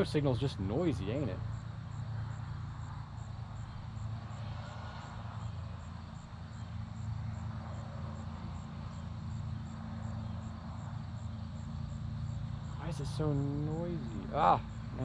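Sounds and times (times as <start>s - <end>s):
distant lawn mower engine: 0.0s - 15.0s.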